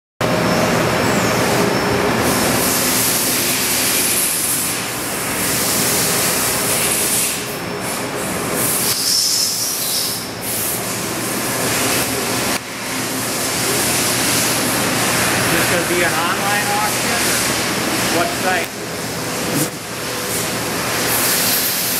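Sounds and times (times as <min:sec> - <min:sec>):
loud machinery noise: 0:00.2 - 0:21.9.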